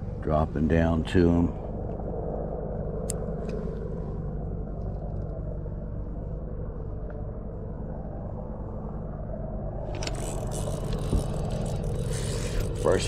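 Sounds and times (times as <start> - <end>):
low rumble with faint hum: 0.0 - 13.0.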